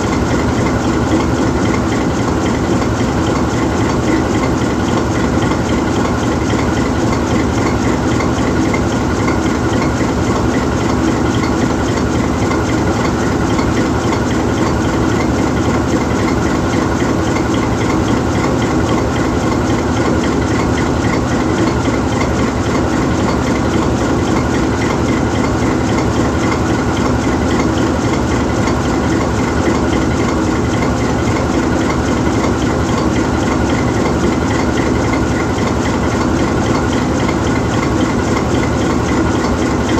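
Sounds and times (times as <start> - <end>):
locomotive diesel engine idling: 0.0 - 39.9.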